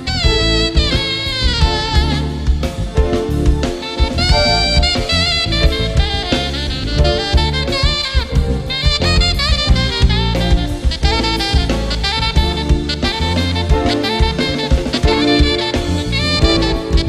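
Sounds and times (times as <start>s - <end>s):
drum kit: 0.0s - 17.0s
jazz bass line: 0.0s - 17.0s
saxophone solo: 0.0s - 17.0s.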